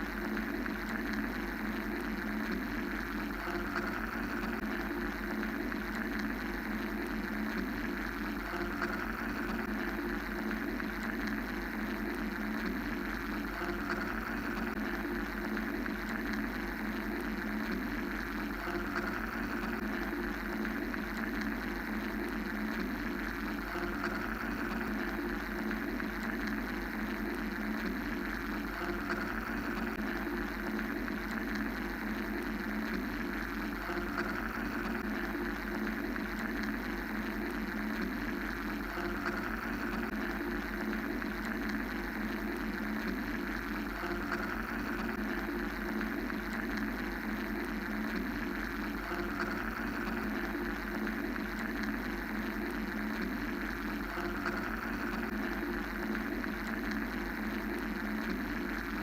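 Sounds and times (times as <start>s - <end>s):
mechanical white noise drone: 0.0s - 59.0s.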